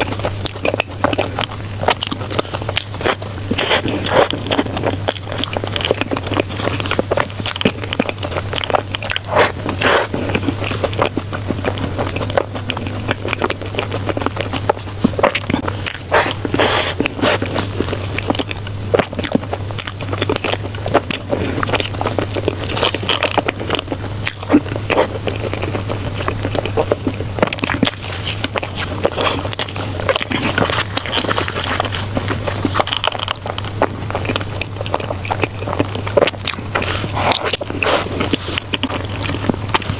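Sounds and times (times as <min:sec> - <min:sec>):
biting and chewing food: 0:00.0 - 0:39.9
steady low hum: 0:00.0 - 0:39.9.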